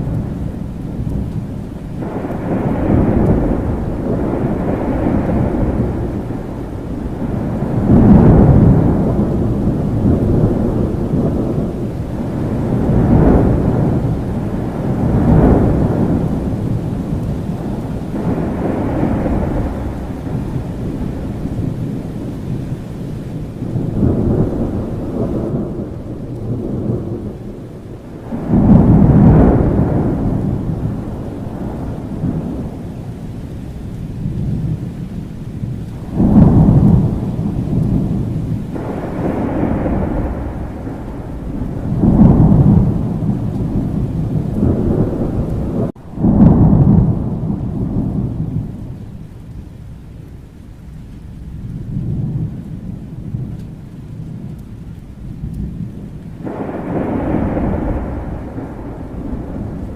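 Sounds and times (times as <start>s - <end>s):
rain falling: 0.0s - 59.9s
rolling thunder: 0.0s - 59.9s.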